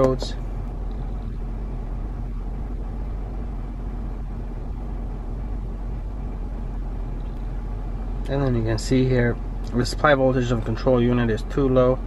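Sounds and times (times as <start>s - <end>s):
car cabin rumble and hum: 0.0s - 12.0s.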